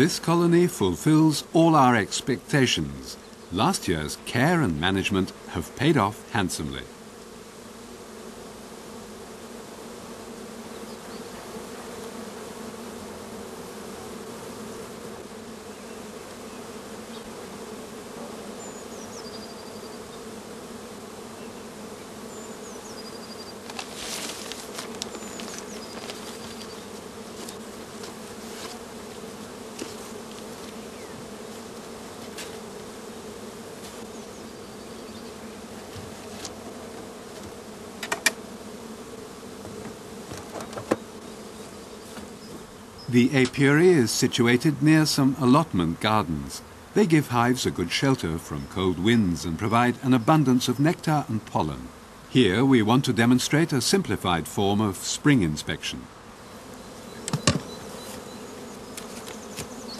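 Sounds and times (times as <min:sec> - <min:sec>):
bees buzzing: 0:00.0 - 0:59.9.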